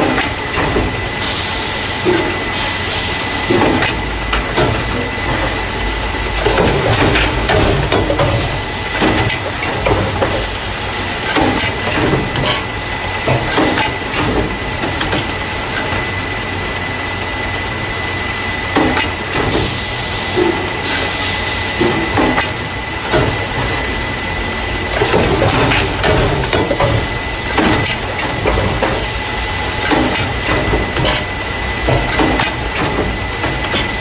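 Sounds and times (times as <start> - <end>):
machine clacks and knocks: 0.0 - 1.4, 2.0 - 16.2, 18.7 - 34.0
packing machine humming: 0.0 - 34.0.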